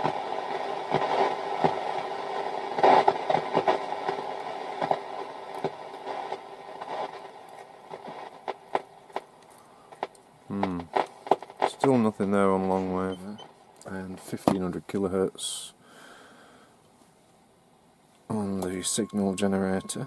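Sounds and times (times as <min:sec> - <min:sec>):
radio static hiss with crackles: 0:00.0 - 0:20.0.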